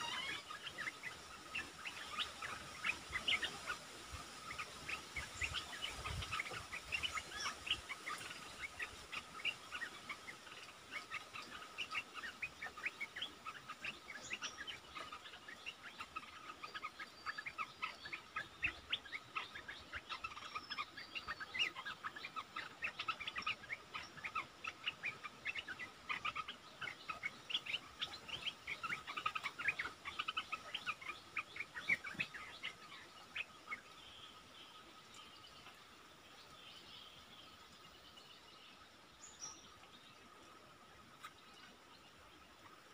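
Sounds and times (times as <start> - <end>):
birds chattering: 0.0 - 42.9.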